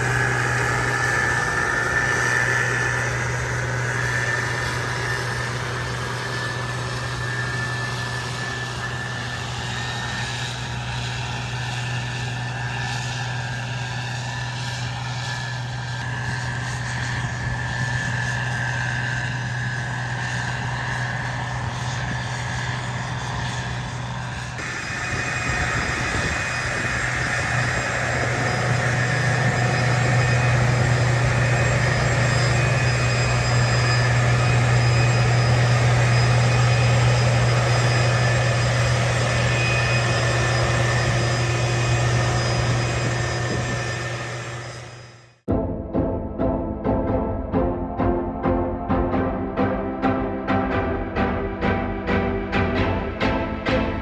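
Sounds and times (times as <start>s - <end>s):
whining machinery: 0.0s - 45.4s, 46.3s - 54.0s
combine harvester engine drone: 0.0s - 54.0s.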